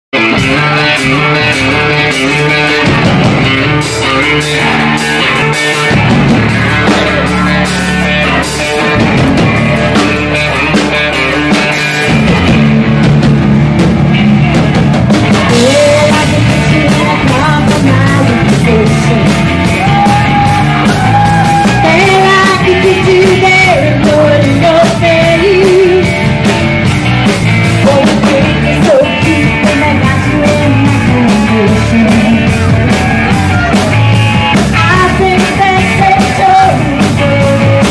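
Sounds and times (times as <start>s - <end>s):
bass guitar: 0.1s - 37.9s
drums: 0.1s - 37.9s
electric guitars: 0.2s - 37.9s
melody line over band: 0.2s - 37.9s.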